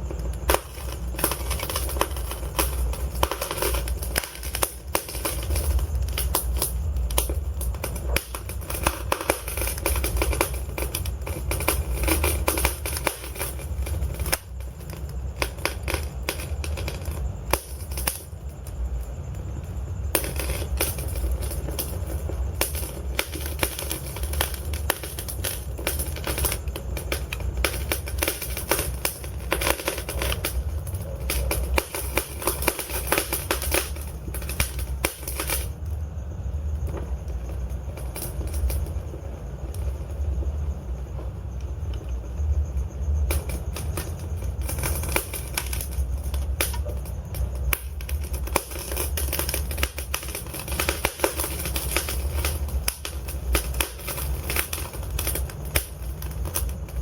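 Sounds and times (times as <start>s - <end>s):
logs crackling in fireplace: 0.0s - 57.0s.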